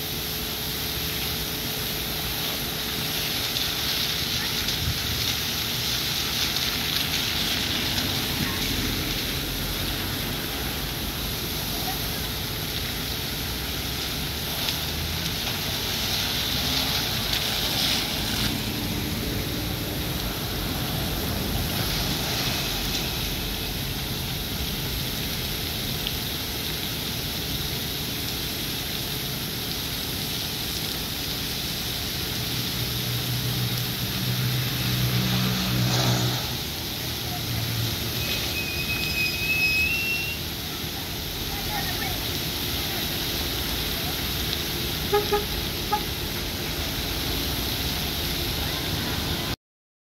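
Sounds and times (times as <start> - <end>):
water jetting in rushing hiss: 0.0 - 49.6.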